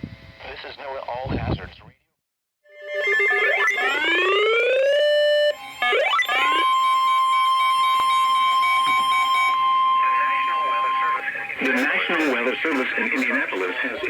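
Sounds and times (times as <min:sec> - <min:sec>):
steady alarm tone: 0:02.7 - 0:14.0.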